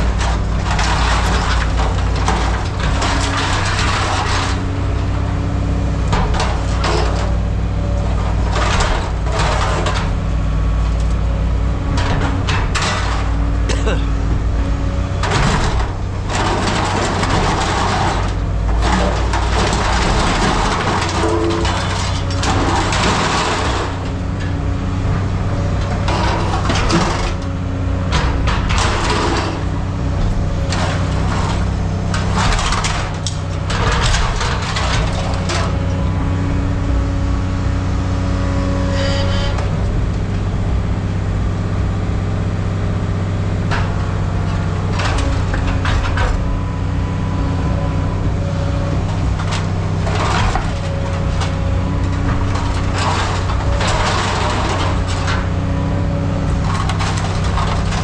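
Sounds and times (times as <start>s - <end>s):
scrap metal clattering: 0.0s - 37.1s, 43.5s - 46.9s, 47.5s - 58.0s.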